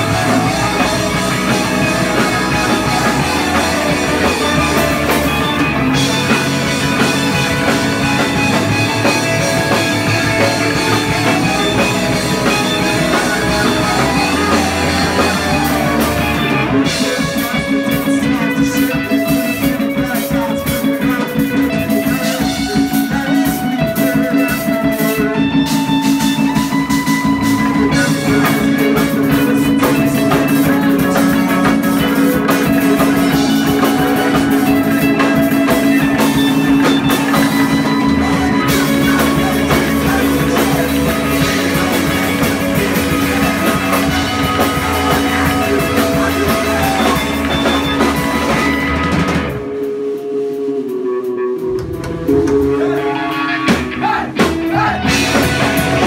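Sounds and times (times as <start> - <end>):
rock music with drums and guitar: 0.0 - 56.0.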